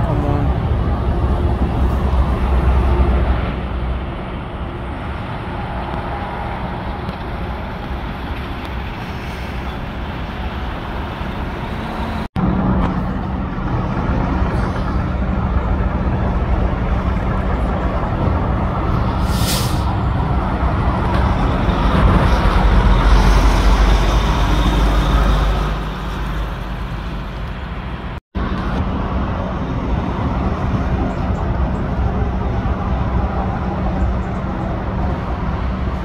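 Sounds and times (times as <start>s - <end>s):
low engine hum: 0.0s - 36.0s
motorway traffic rumble: 0.0s - 36.0s.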